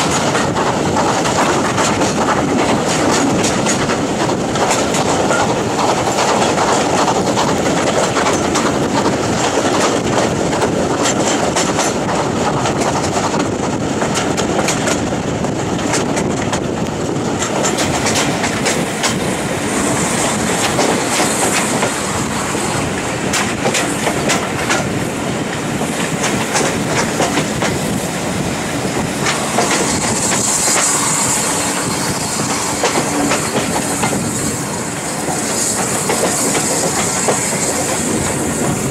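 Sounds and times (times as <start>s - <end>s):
train rumble and rattle: 0.0s - 38.9s
train wheels clicking over rail joints: 0.0s - 38.9s.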